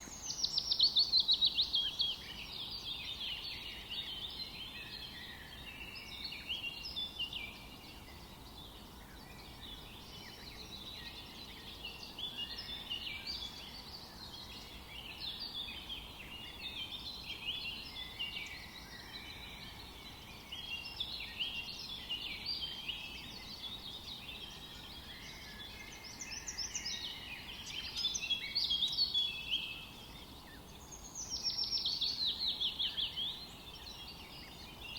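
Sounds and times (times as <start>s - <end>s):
faint background hiss: 0.0s - 34.9s
small birds chirping: 0.0s - 34.9s.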